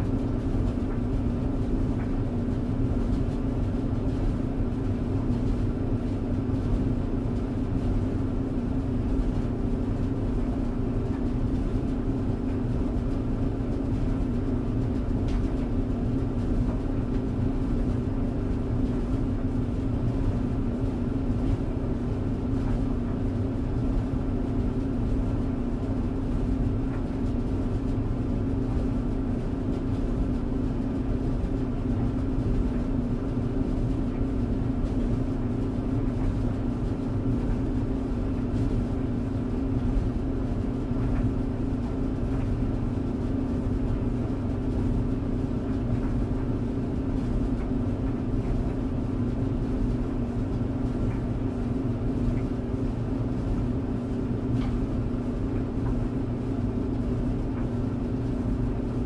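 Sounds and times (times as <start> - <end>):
tumble dryer running: 0.0 - 59.0.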